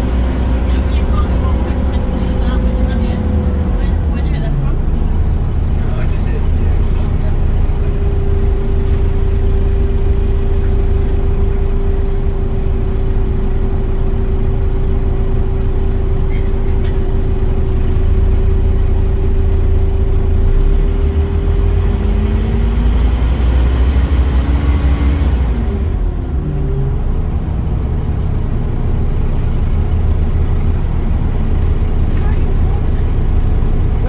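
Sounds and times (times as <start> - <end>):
diesel bus engine idling: 0.0 - 34.0.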